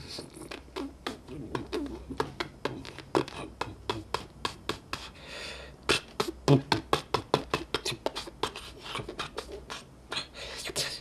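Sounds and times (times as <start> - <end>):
mouth clicks and smacks: 0.0 - 5.2, 5.8 - 11.0
breathy mouth hiss: 0.0 - 11.0.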